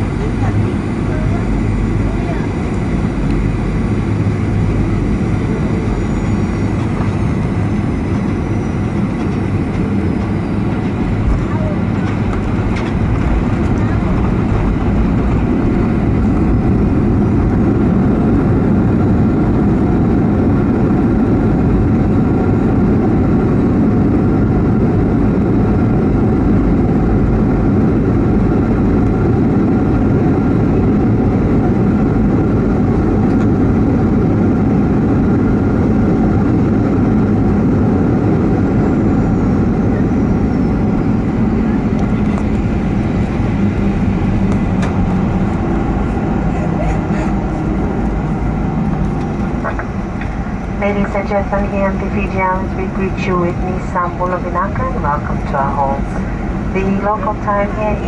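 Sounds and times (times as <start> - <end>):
airliner rumble and hum: 0.0 - 58.0.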